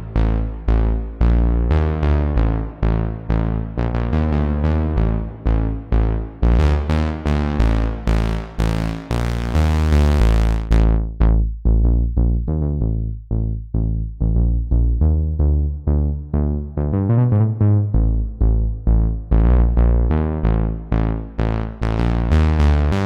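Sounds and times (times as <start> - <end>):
synth bass plucked notes: 0.0 - 23.0.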